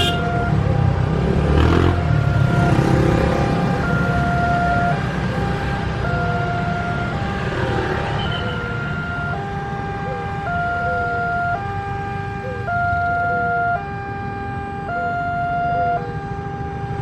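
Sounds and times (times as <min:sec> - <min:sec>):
two-tone level crossing siren: 0:00.0 - 0:17.0.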